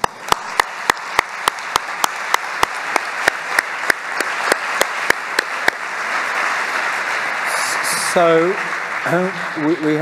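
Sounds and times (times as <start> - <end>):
audience applauding: 0.0 - 10.0
close loud hand claps: 0.0 - 10.0.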